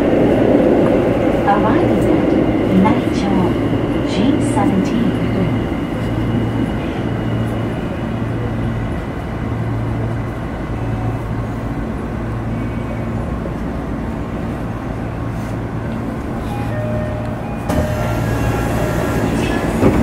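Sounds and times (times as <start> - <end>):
station noise: 0.0 - 20.0
train equipment humming: 0.0 - 20.0.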